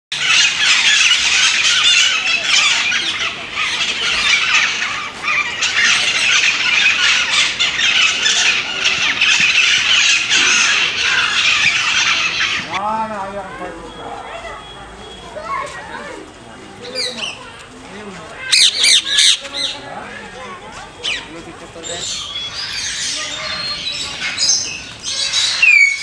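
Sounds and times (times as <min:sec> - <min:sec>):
parrots squawking: 0:00.1 - 0:12.8, 0:16.8 - 0:17.7, 0:18.3 - 0:26.0.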